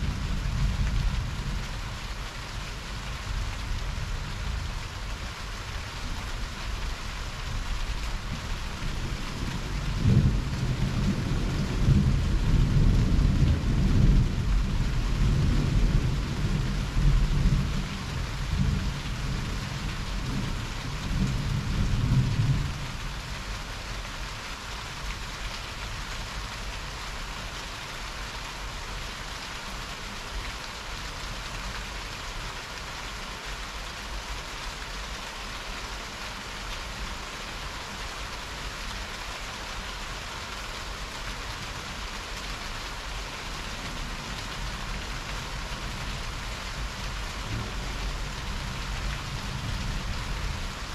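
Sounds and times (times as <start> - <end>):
heavy rain: 0.0 - 50.9.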